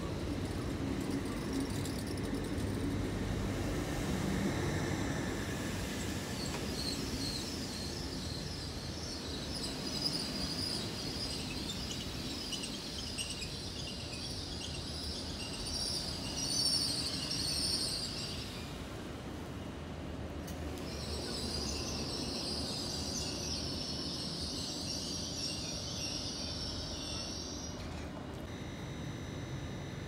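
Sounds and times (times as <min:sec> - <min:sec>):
electric train low rumble: 0:00.0 - 0:30.0.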